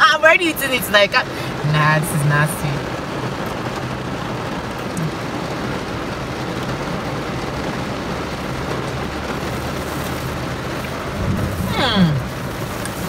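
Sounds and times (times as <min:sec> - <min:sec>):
heavy rain drumming on car roof: 0:00.0 - 0:13.0.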